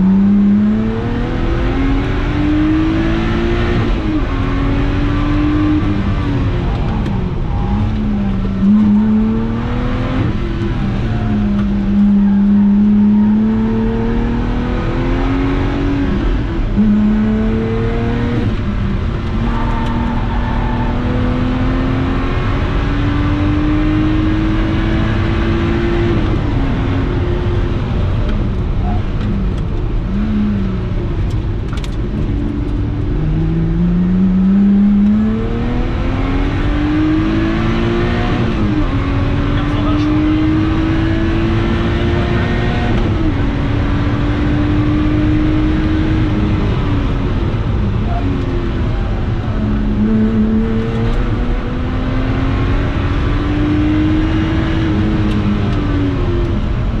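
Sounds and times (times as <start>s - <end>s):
car engine accelerating through gears: 0.0s - 57.0s
road and wind noise: 0.0s - 57.0s.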